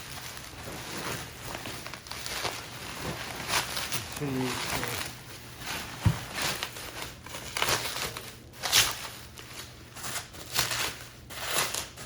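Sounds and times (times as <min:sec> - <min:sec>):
packaging wrap crinkling: 0:00.0 - 0:12.0.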